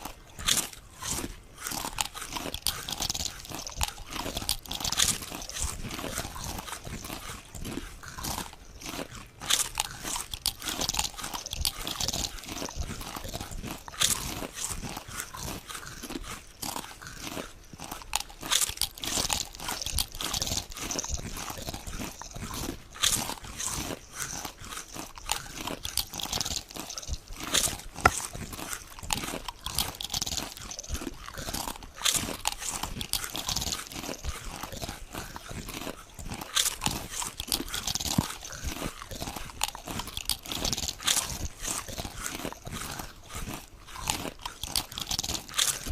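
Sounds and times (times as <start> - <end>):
potato chips crunching: 0.0 - 45.9.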